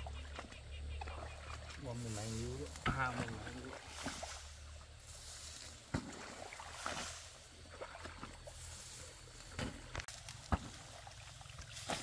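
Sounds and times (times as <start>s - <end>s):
muddy water sloshing: 0.0s - 12.0s
rice stalks rustling: 1.8s - 12.0s.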